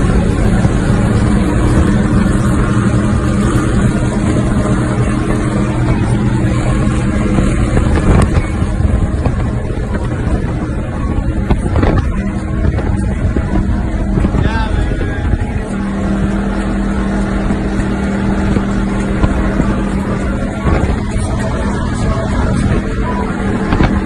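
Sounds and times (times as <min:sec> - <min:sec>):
powerboat engines rumbling: 0:00.0 - 0:24.0.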